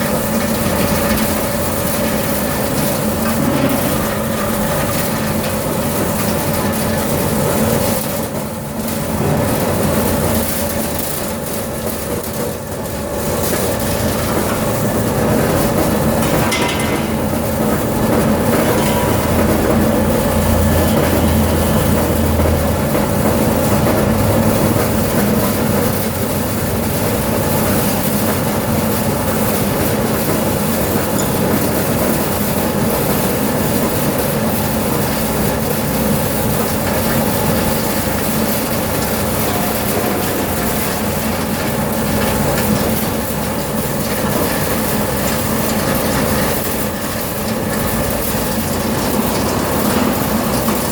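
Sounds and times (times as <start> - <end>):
industrial machinery humming: 0.0 - 50.9
machinery clattering rattle: 0.0 - 50.9.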